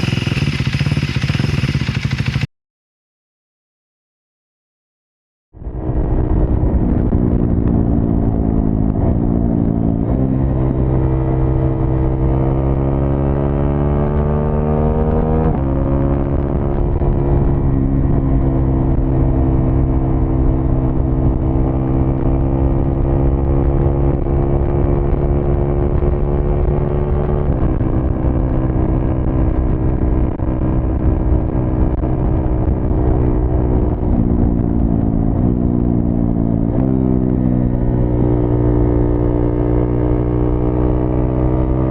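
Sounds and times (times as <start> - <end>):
motorcycle engine revving: 0.0 - 2.5, 5.6 - 41.9.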